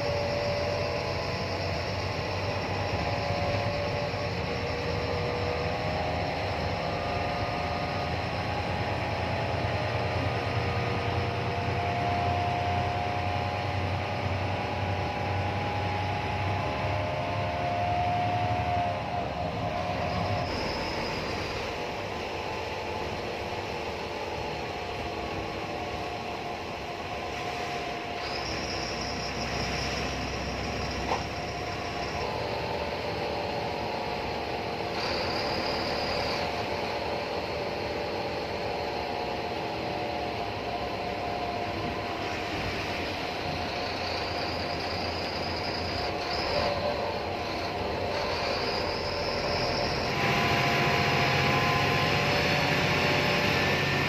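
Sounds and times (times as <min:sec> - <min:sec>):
bus engine and road noise: 0:00.0 - 0:54.0
thin high whine: 0:00.0 - 0:54.0.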